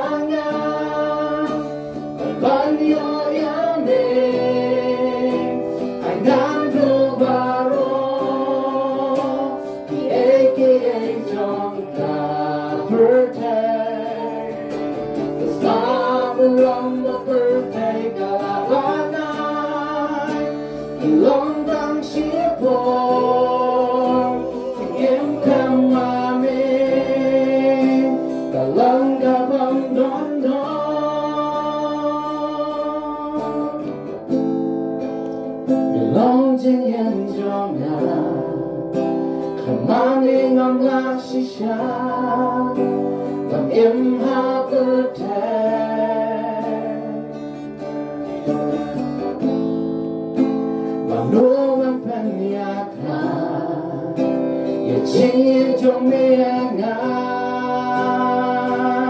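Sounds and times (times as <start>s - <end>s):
man and woman singing: 0.0s - 34.1s, 35.8s - 47.7s, 50.8s - 59.0s
strummed acoustic guitar: 0.0s - 59.0s.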